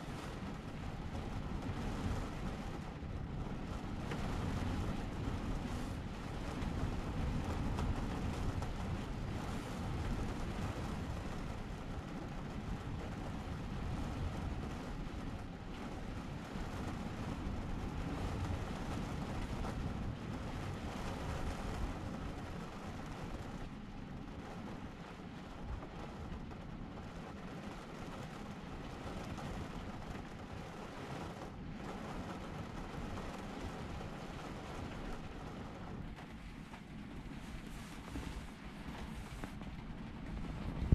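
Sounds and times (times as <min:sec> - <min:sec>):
heavy rain on a van roof: 0:00.0 - 0:40.9.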